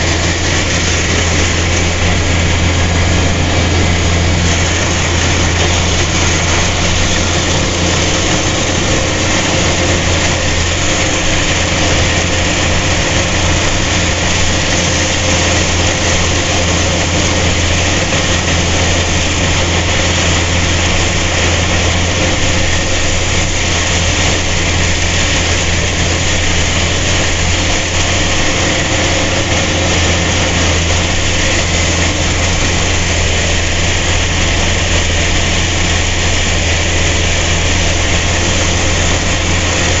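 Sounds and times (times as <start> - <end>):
harvester engine running: 0.0 - 40.0.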